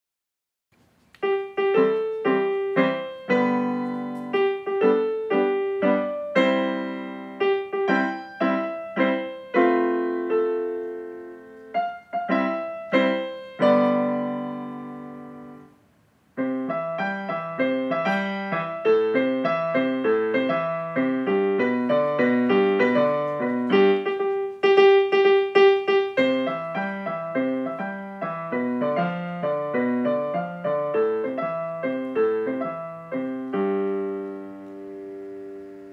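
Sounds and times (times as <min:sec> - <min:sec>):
electronic keyboard piano tune: 0:01.2 - 0:15.8, 0:16.4 - 0:35.9.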